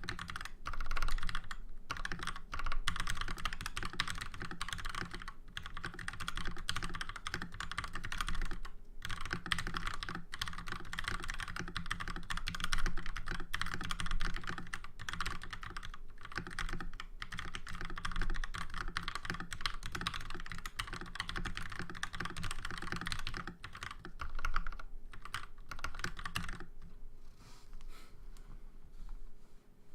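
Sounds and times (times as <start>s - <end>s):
typing on mechanical keyboard: 0.0s - 26.8s.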